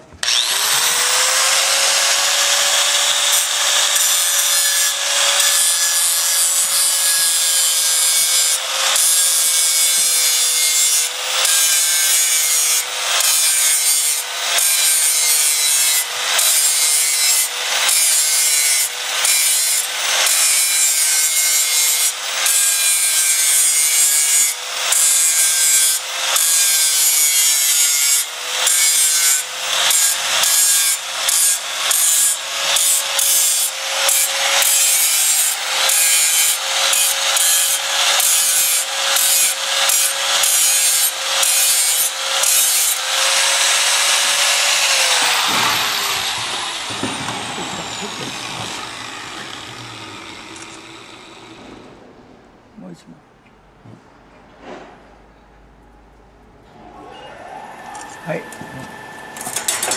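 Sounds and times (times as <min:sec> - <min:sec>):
angle grinder grinding steel: 0:00.0 - 0:51.9, 0:58.2 - 0:59.9.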